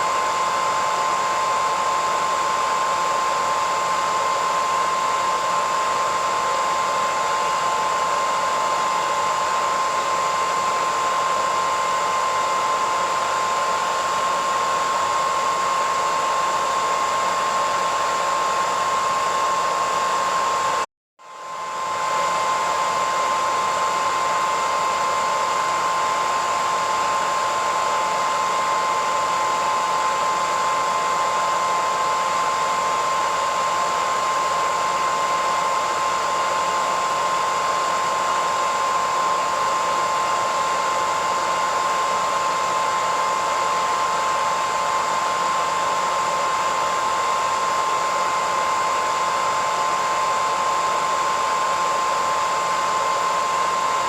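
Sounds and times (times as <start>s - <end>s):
hairdryer running: 0.0s - 54.0s.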